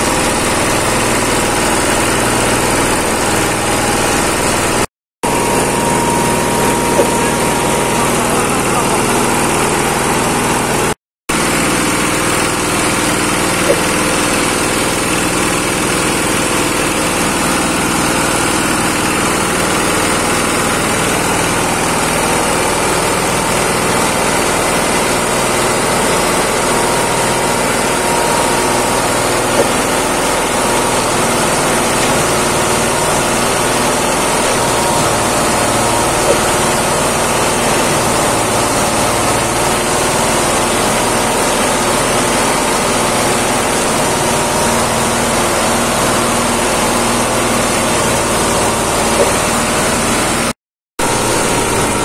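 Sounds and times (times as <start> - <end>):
grinding mill running: 0.0 - 52.0.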